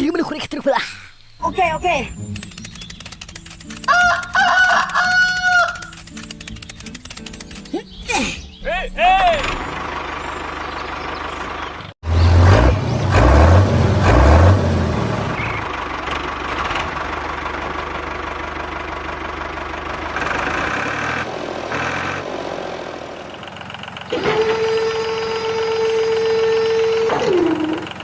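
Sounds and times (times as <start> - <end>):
tractor engine running: 1.4 - 28.0.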